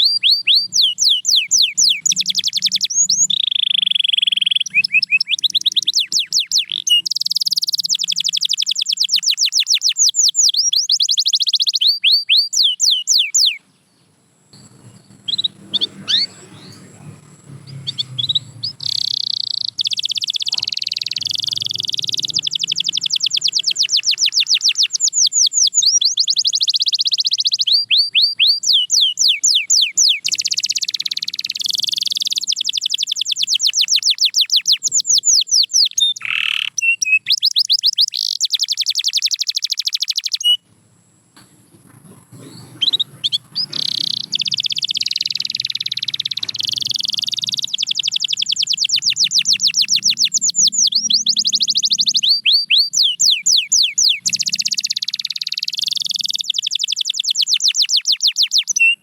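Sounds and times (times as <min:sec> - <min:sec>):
canary singing trills: 0:00.0 - 0:40.7, 0:41.8 - 0:59.0.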